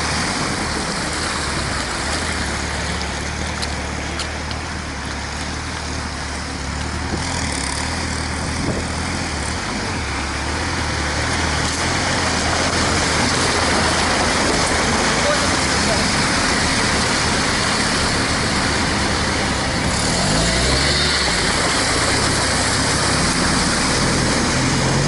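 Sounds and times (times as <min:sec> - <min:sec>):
road and wind noise: 0:00.0 - 0:25.0
vehicle engine drone: 0:00.0 - 0:25.0.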